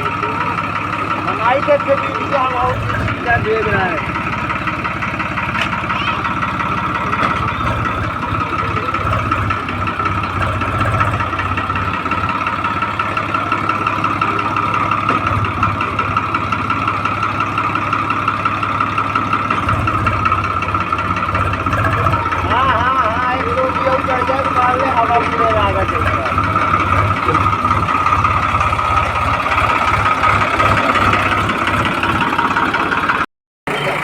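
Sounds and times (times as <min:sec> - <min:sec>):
constant whine: 0:00.0 - 0:34.0
diesel engine running: 0:00.0 - 0:34.0.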